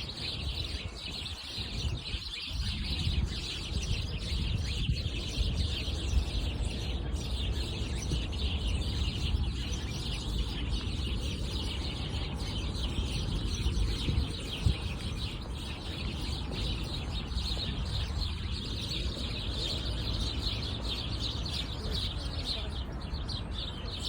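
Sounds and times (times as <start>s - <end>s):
small birds chirping: 0.0s - 24.0s
steady low rumble: 2.6s - 23.8s.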